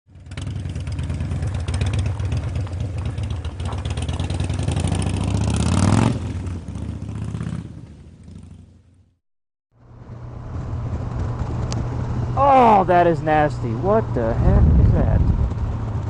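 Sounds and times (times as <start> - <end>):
motorcycle engine accelerating: 0.1 - 9.2, 9.8 - 16.0.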